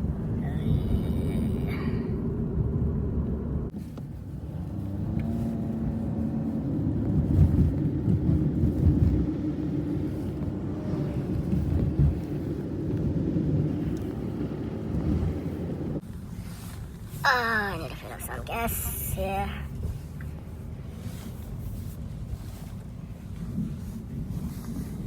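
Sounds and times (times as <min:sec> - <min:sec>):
motor vehicle engine rumble: 0:00.0 - 0:25.0.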